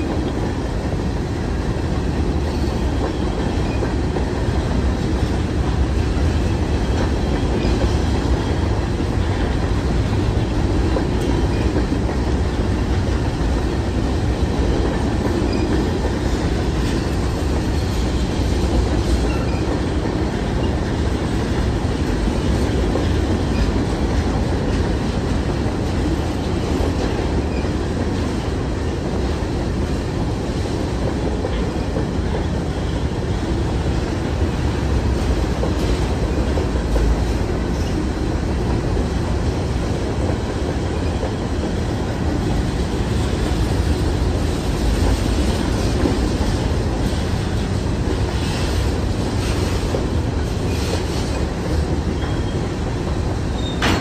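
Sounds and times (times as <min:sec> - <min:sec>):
freight train rolling past: 0:00.0 - 0:54.0
steel wheels on rails: 0:00.0 - 0:54.0.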